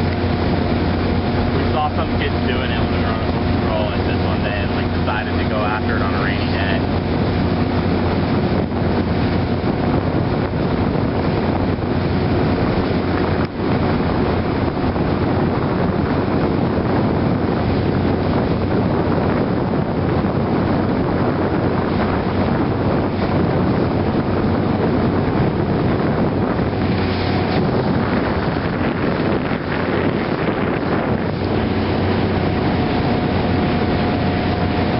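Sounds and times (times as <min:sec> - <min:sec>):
motorboat engine running: 0:00.0 - 0:34.9
water rushing along hull: 0:00.0 - 0:34.9
wind buffeting microphone: 0:00.0 - 0:34.9.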